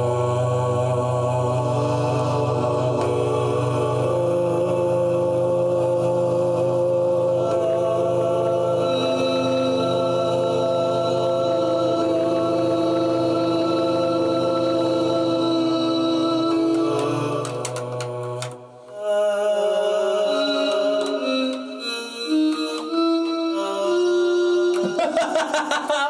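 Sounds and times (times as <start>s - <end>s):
choir-like sampled voice chord: 0.0s - 26.0s.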